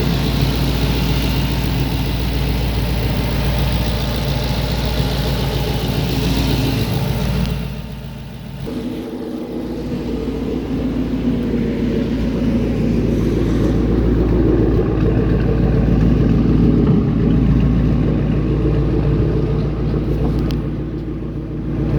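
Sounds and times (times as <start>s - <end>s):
deep car exhaust note: 0.0s - 21.9s.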